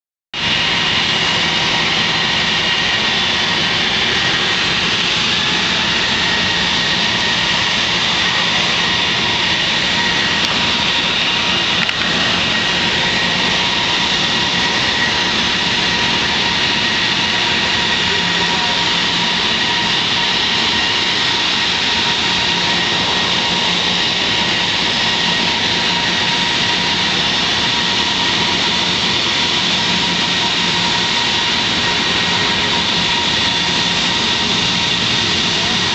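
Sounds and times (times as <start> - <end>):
jet engines whining: 0.4 - 35.9
rushing noise: 0.4 - 35.9.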